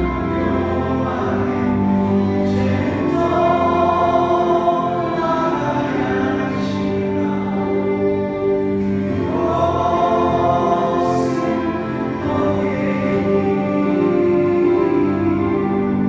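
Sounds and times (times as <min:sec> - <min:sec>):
vocal group singing in harmony: 0:00.0 - 0:16.0.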